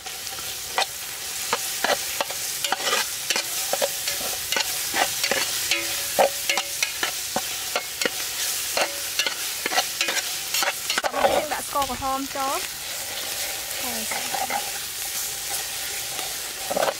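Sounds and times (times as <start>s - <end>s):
food sizzling in hot oil: 0.0s - 16.9s
metal spatula scraping a pot: 0.2s - 11.6s, 12.8s - 16.9s.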